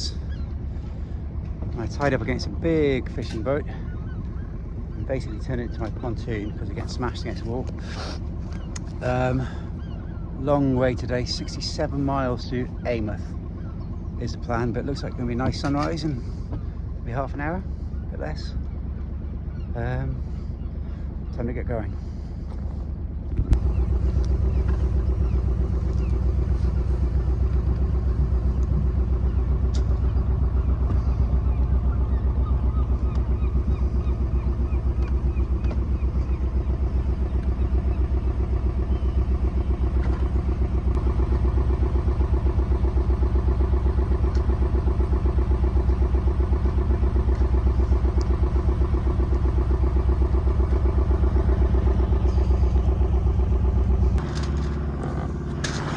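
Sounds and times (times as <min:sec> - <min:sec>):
boat engine chugging: 0:00.0 - 0:55.9.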